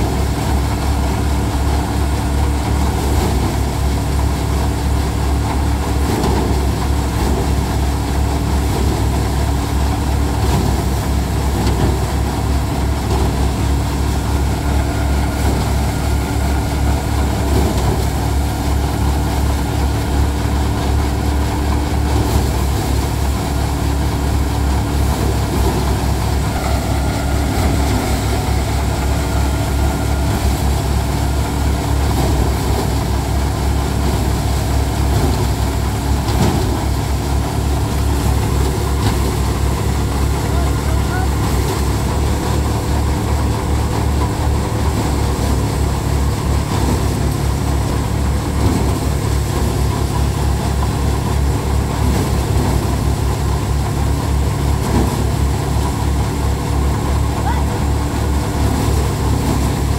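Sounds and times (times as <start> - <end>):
thresher running: 0.0 - 59.9
tractor engine running: 0.0 - 59.9.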